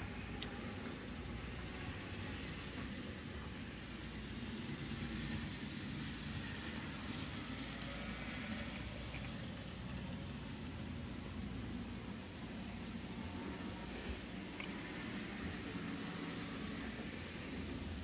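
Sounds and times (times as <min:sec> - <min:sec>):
model trains whirring on track: 0:00.0 - 0:18.0.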